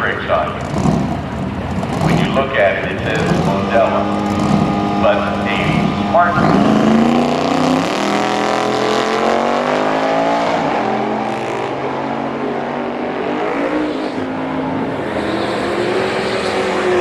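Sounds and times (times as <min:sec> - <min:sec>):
drag racing engines at high revs: 0:00.0 - 0:17.0.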